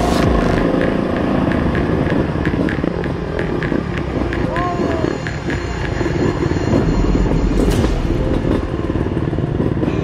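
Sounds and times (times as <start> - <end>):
dirt bike engines rumbling: 0.0 - 10.0.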